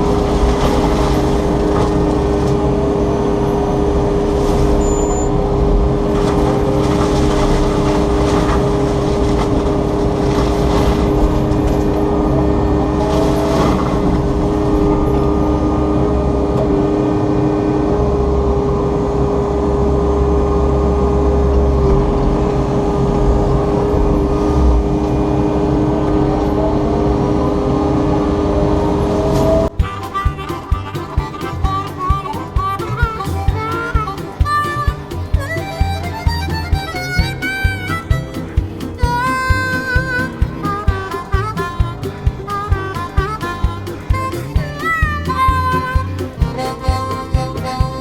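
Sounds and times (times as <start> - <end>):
excavator diesel engine under load: 0.0 - 48.0.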